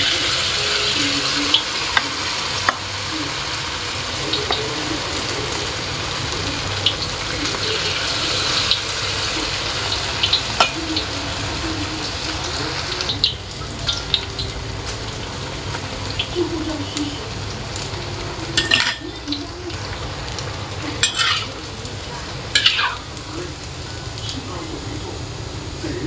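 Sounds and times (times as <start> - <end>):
batter deep-frying in oil: 0.0 - 26.0.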